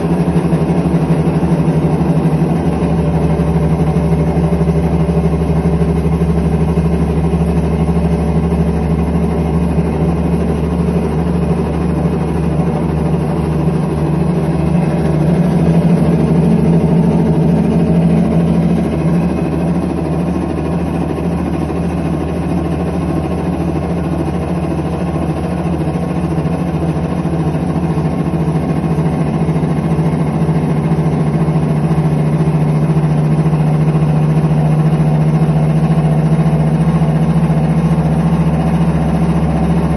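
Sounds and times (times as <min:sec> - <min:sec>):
washing machine mechanical drone: 0:00.0 - 0:39.9.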